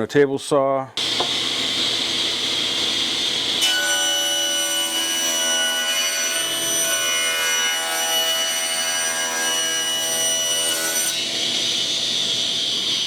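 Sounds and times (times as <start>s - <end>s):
table saw cutting wood: 1.0s - 13.0s.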